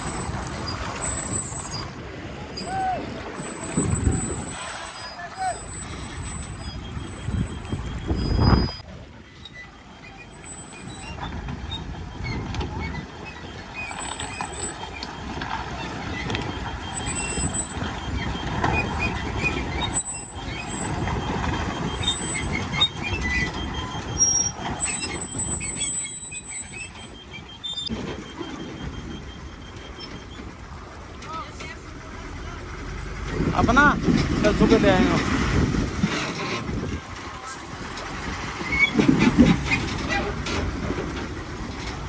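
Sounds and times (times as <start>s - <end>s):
heavy vehicle engines running: 0.0s - 42.0s.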